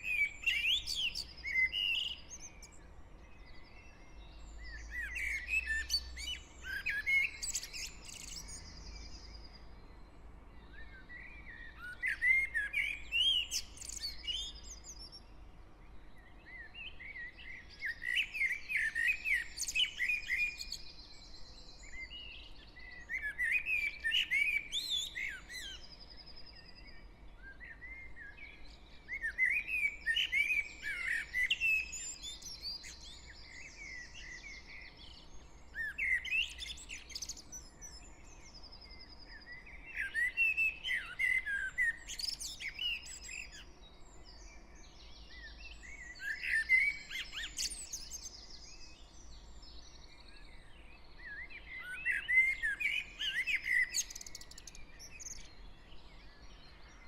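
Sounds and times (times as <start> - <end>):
bird singing close by: 0.0 - 57.0
fainter bird songs and calls: 0.0 - 57.0.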